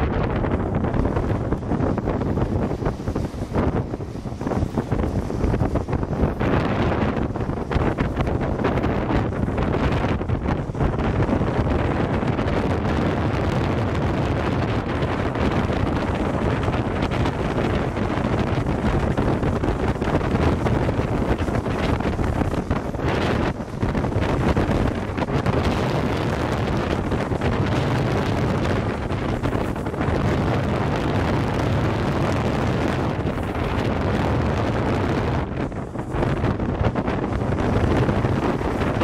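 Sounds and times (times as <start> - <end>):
car rumbling on road: 0.0 - 39.0
wind buffeting microphone: 0.0 - 39.0.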